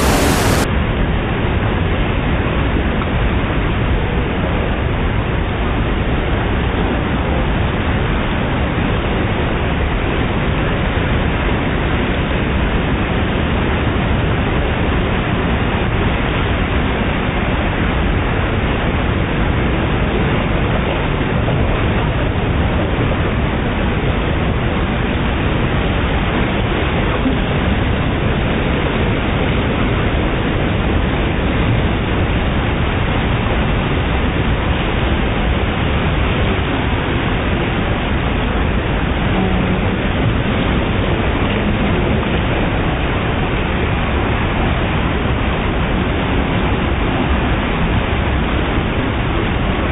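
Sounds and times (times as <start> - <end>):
whitewater rapid rushing: 0.0 - 0.7, 8.8 - 49.9.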